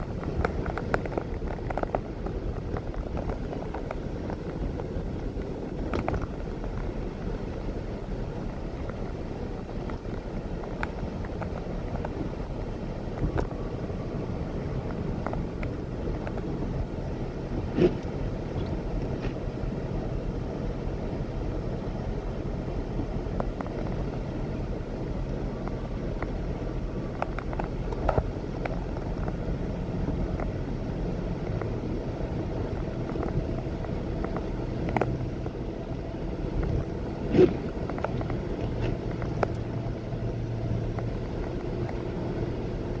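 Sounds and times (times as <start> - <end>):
engine and tyres hum: 0.0 - 43.0.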